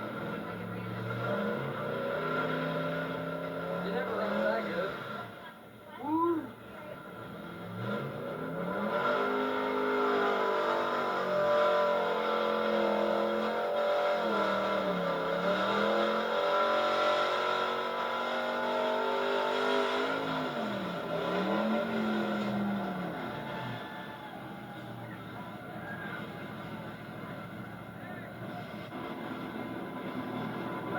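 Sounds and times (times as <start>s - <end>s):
truck engine revving under load: 0.0s - 5.8s, 6.5s - 30.9s.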